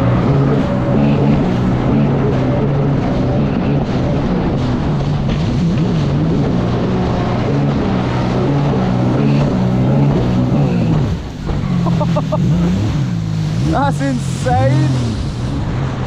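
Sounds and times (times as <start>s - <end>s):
jet ski engine running hard: 0.0s - 16.0s.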